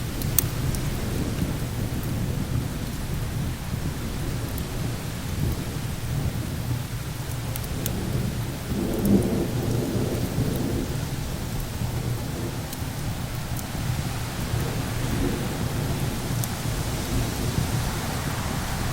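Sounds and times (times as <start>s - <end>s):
low rumble of thunder: 0.0s - 18.9s
steady hiss: 0.0s - 18.9s
wood fire crackling: 0.0s - 18.9s.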